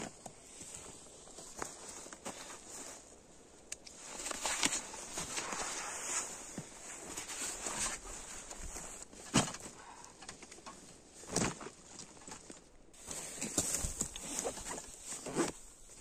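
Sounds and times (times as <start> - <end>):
fabric and straps rustling: 0.2 - 16.0.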